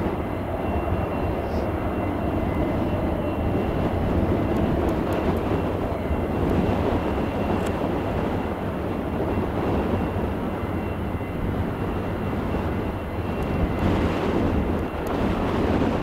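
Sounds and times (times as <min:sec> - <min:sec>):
jet engine running: 0:00.0 - 0:16.0.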